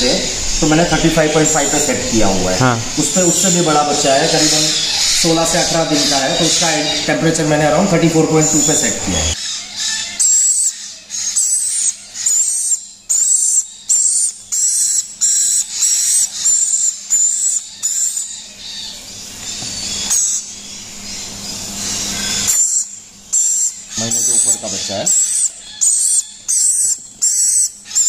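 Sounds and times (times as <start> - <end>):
parrot chick begging calls: 0.0 - 28.0.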